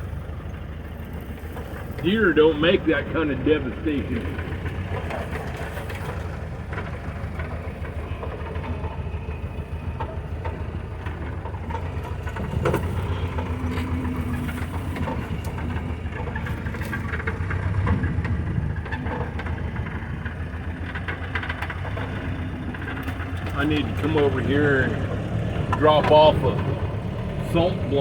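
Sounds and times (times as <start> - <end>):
engine running at low speed: 0.0 - 28.0
vehicle knocks and rattles: 0.0 - 28.0.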